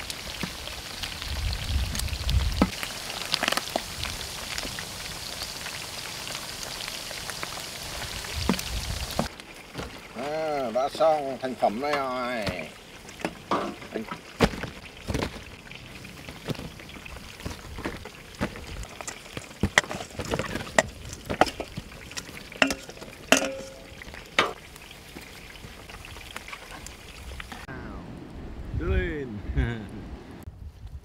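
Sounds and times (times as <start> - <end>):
pork sizzling in a frying pan: 0.0 - 27.5.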